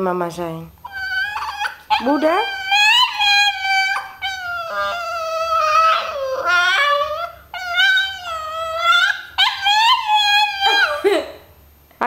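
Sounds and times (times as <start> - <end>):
dog howling: 0.8 - 11.1.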